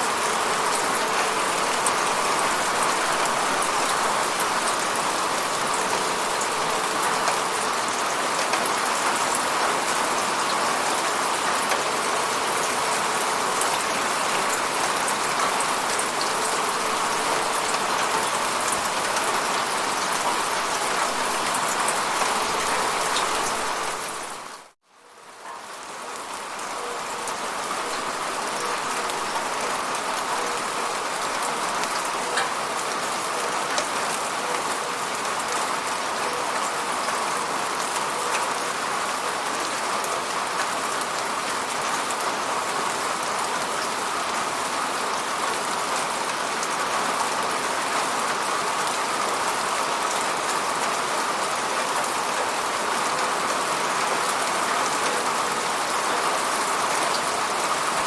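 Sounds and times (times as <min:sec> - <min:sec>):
steady falling rain: 0:00.0 - 0:58.0.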